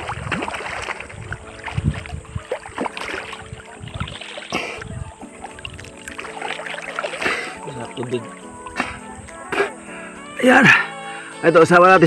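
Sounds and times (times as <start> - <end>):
seawater splashing and sloshing: 0.0 - 9.8.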